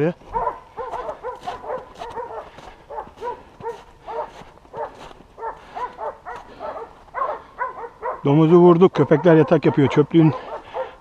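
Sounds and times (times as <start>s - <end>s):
hunting dogs barking: 0.2s - 11.0s.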